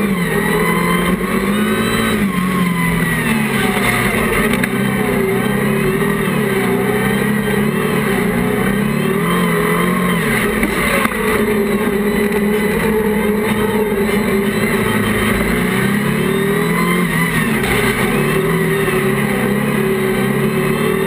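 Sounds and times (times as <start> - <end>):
racing buggy engine revving: 0.0 - 21.0.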